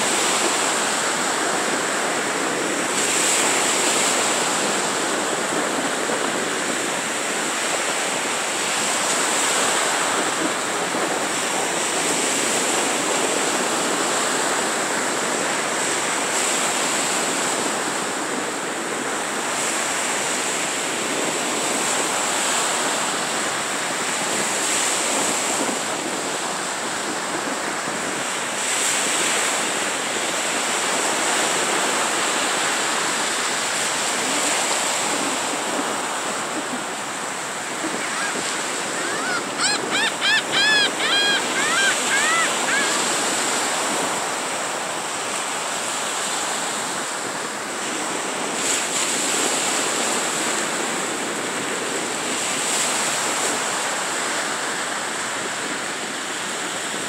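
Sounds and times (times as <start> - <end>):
surf washing up a beach: 0.0 - 57.0.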